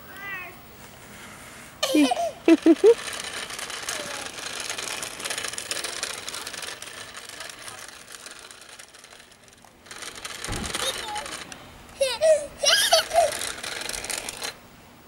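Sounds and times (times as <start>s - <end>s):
toy motor whirring: 1.8s - 14.6s.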